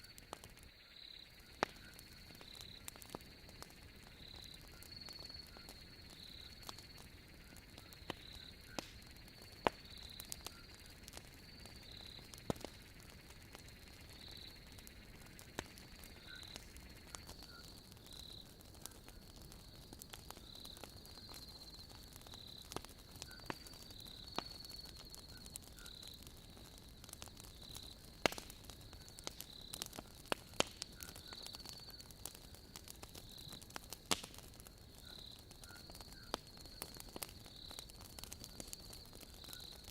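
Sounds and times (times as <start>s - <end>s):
night insects chirping: 0.0s - 39.9s
wood fire crackling and popping: 0.0s - 39.9s.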